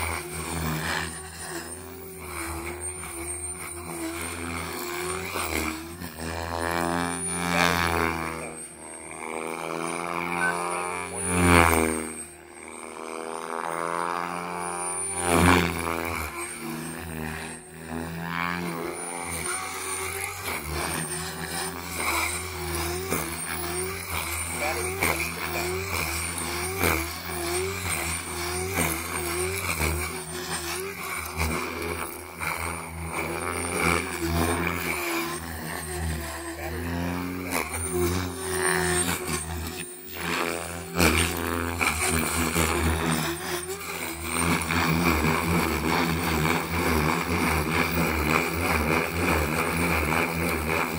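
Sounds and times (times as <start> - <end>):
helicopter rotor hum: 0.0 - 50.9
motor whine sweeping in pitch: 0.0 - 50.9.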